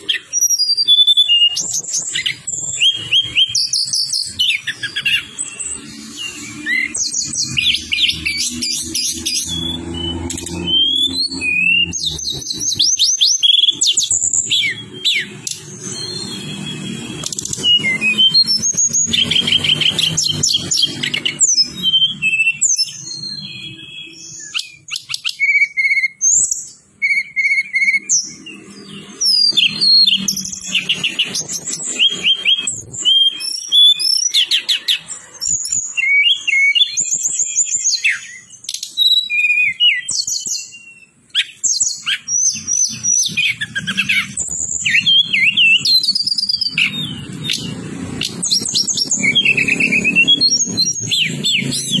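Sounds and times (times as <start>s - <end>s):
songbird singing: 0.0s - 52.0s.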